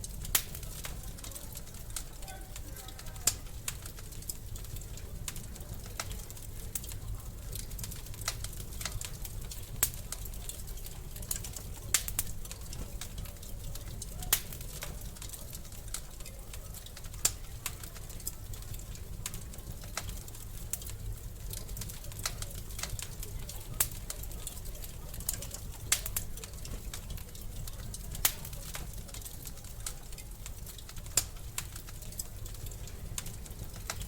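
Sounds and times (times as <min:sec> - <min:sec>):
low fire rumble: 0:00.0 - 0:34.0
wood fire crackling and popping: 0:00.0 - 0:34.0.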